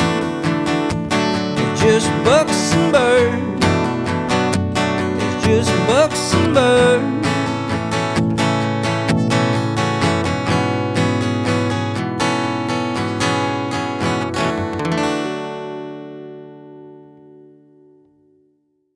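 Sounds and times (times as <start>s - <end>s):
acoustic guitar strumming: 0.0s - 18.4s.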